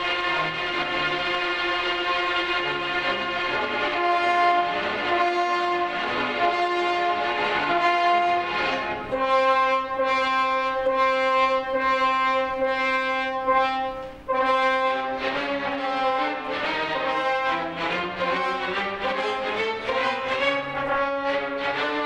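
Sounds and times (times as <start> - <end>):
orchestra playing held notes: 0.0 - 22.0.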